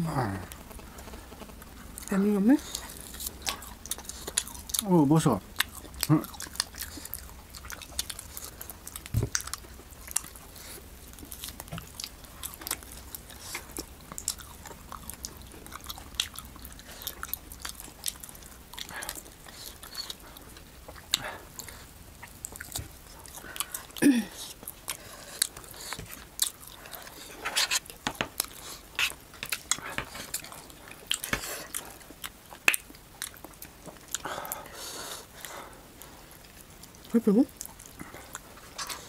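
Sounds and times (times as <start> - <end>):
chewing with wet smacks: 1.9 - 39.0.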